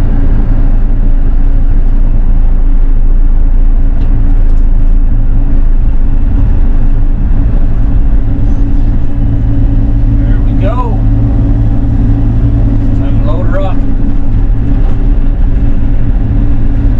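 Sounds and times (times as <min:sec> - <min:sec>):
engine droning steadily: 0:00.0 - 0:16.9.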